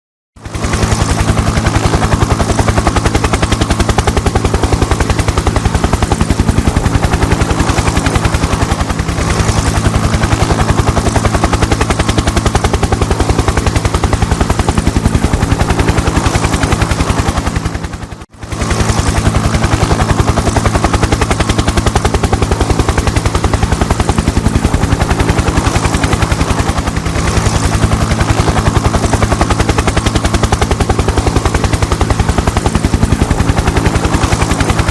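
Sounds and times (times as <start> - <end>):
helicopter rotor chopping: 0.4 - 34.9.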